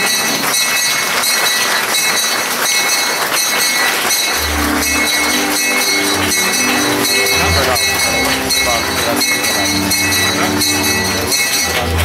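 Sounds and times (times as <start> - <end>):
bells ringing: 0.0 - 12.0
congregation applauding: 0.0 - 12.0.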